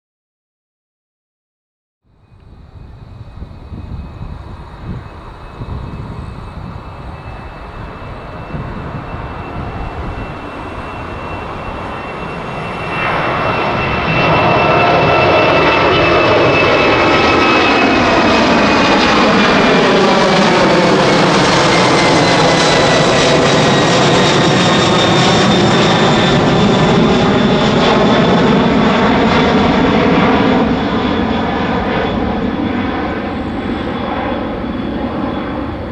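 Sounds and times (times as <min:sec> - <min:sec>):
high jet engine whine: 0:02.1 - 0:35.9
jet engines at takeoff thrust: 0:02.1 - 0:35.9.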